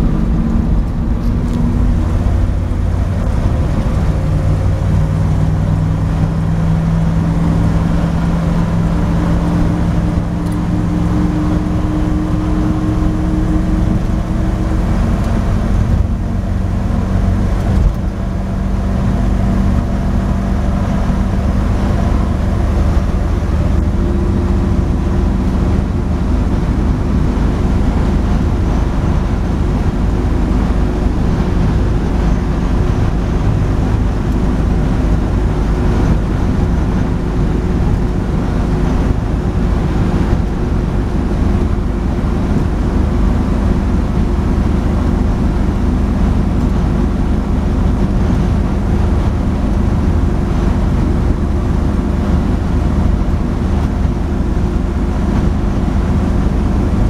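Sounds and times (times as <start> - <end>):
engine drone inside cab: 0.0 - 57.0
road noise: 0.0 - 57.0.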